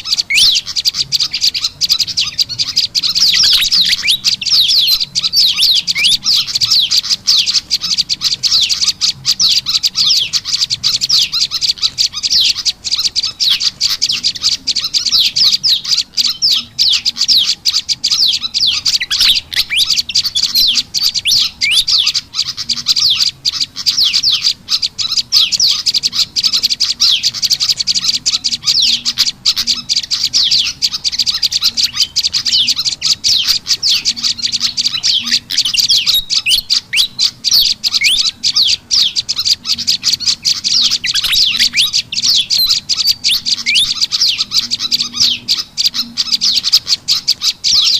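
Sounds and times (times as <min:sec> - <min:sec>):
rapid high bird chirping: 0:00.0 - 0:47.9.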